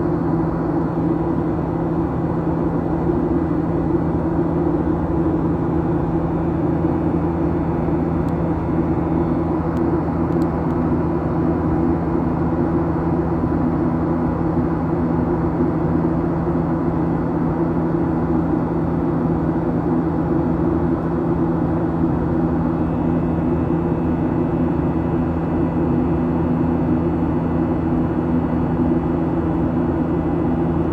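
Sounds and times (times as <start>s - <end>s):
airplane cabin engine drone: 0.0s - 30.9s.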